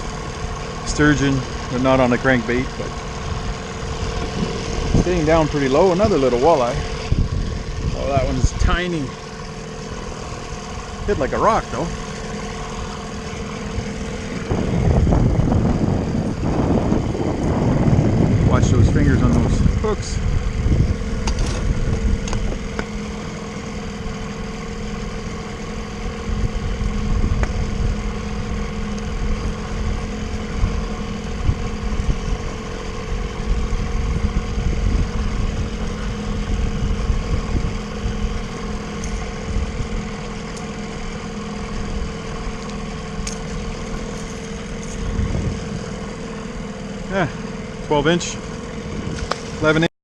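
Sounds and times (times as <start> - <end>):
outboard motor running: 0.0 - 49.9.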